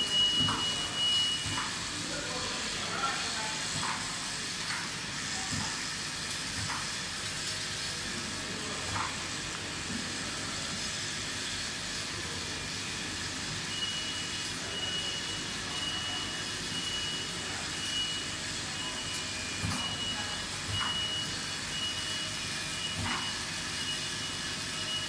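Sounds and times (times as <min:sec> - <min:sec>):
conveyor whirring hiss: 0:00.0 - 0:25.0.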